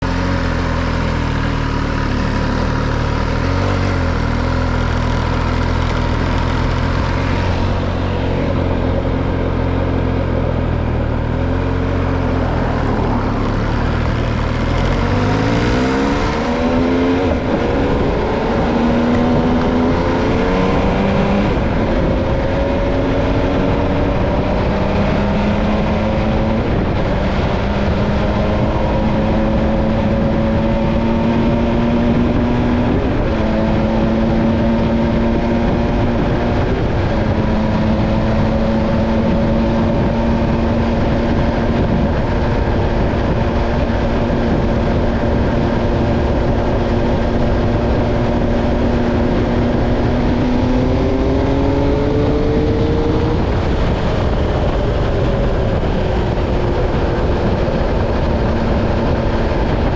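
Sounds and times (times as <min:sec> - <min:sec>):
motorcycle engine idling and accelerating: 0:00.0 - 0:59.9.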